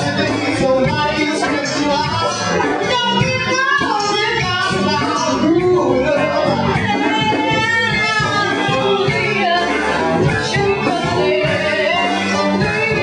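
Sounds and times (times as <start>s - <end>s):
swing band music with horns: 0.0s - 13.0s.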